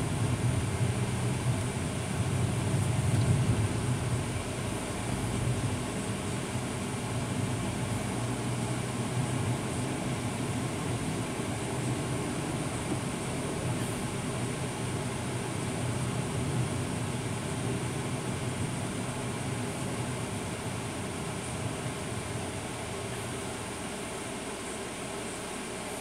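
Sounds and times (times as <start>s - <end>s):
road noise: 0.0s - 24.3s
truck engine rumble: 0.0s - 26.0s.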